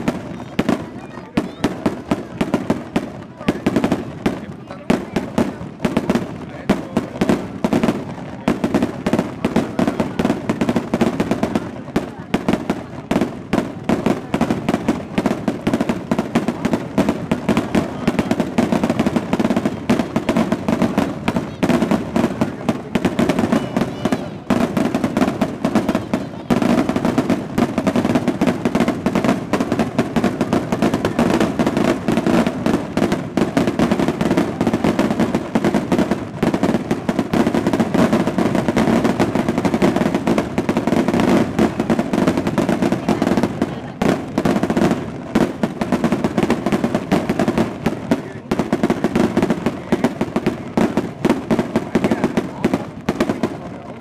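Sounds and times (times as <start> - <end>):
fireworks cracking: 0.0 - 54.0.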